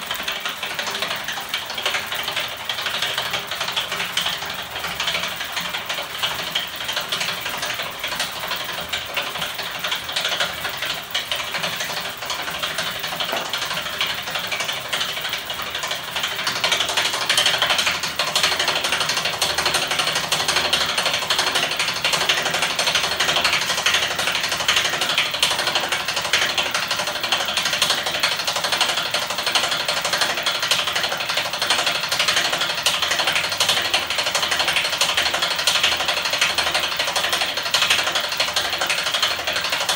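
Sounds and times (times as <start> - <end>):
motor-driven rotor clattering: 0.0 - 39.9.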